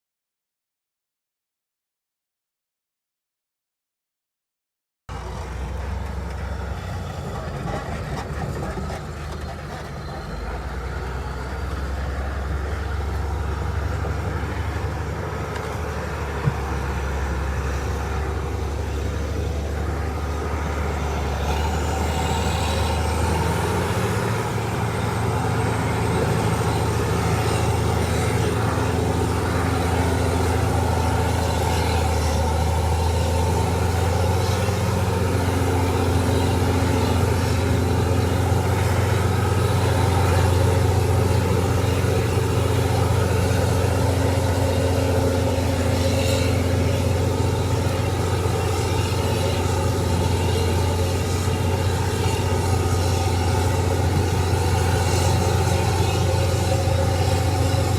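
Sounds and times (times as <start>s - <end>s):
heavy diesel engine running: 5.1s - 57.9s.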